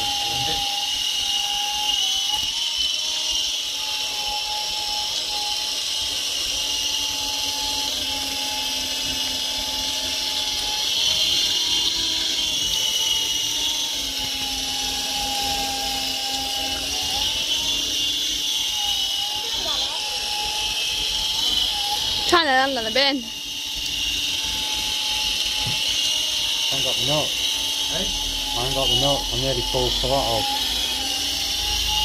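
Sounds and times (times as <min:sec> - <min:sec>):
rc helicopter rotor whine: 0:00.0 - 0:32.0.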